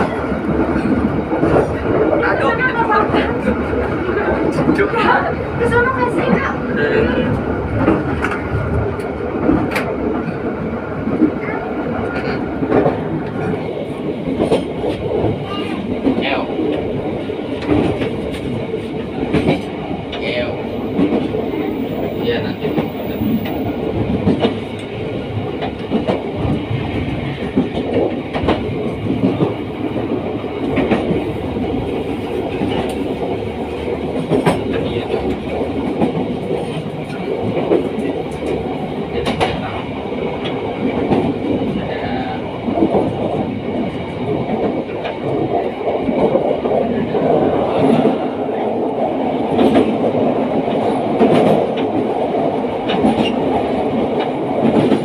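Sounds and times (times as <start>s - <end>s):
rail joints clacking: 0.0s - 55.0s
train wheels rumbling on rails: 0.0s - 55.0s.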